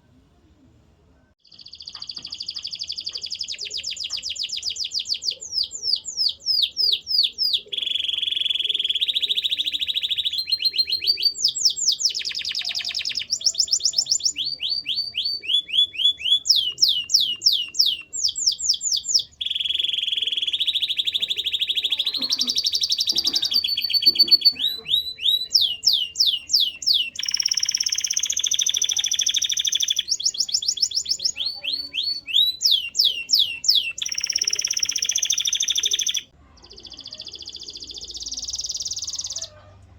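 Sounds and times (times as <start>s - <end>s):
canary singing: 1.4s - 39.7s.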